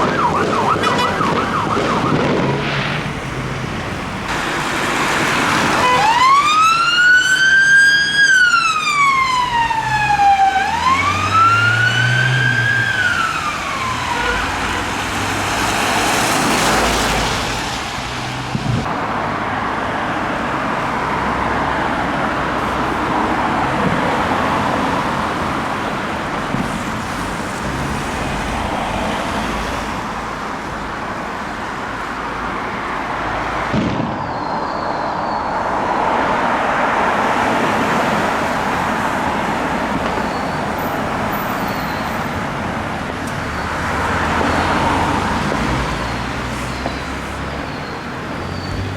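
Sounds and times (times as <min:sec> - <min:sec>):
cars driving past: 0:00.0 - 0:06.8, 0:08.9 - 0:25.8, 0:32.4 - 0:48.9.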